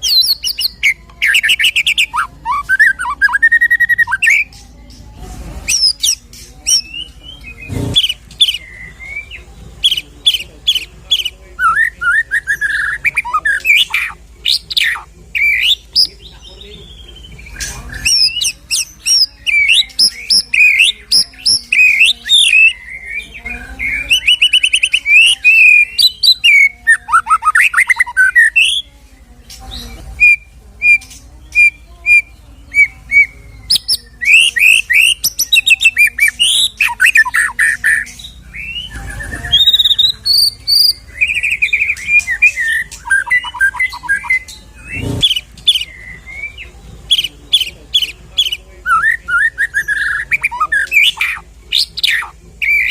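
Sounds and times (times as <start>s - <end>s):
songbird whistles and trills: 0.0s - 52.9s.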